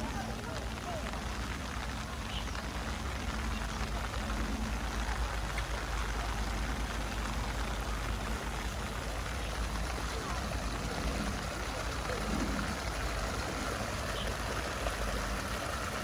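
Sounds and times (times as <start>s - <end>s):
small river flowing: 0.0s - 16.0s
steady rain: 0.0s - 16.0s.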